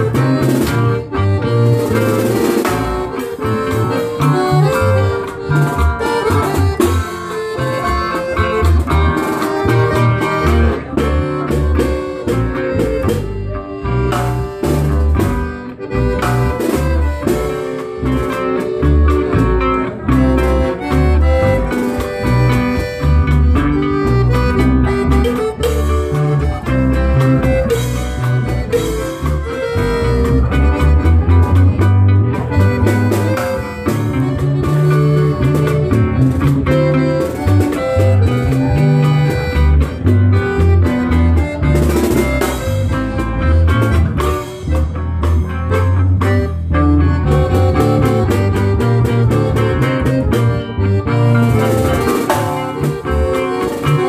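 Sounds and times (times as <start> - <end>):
accordion melody: 0.0 - 54.0
electric bass: 0.0 - 54.0
strummed twelve-string guitar: 0.0 - 54.0.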